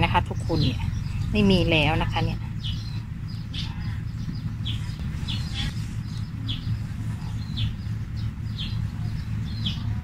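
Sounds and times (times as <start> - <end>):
bird chirping: 0.0 - 10.0
steady low hum: 0.0 - 10.0.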